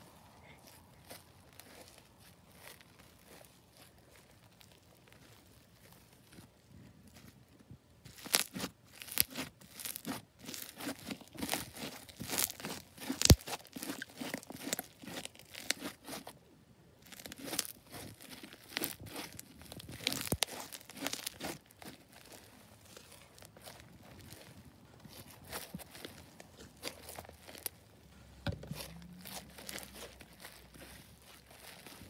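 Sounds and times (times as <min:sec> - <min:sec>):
slime crackling and popping: 0:01.0 - 0:06.5, 0:08.0 - 0:16.3, 0:17.0 - 0:32.0.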